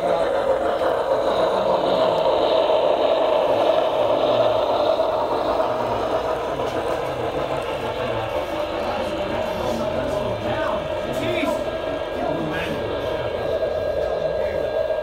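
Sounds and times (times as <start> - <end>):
model train wheels rattling on rail: 0.0 - 15.0.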